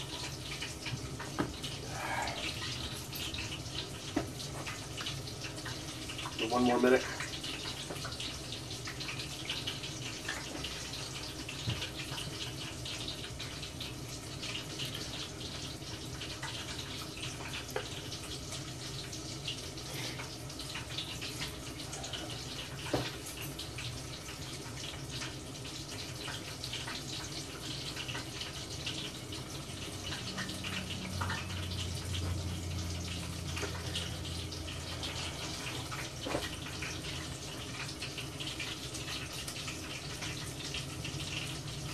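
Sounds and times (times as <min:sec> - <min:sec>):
shrimp frying in oil: 0:00.0 - 0:41.9.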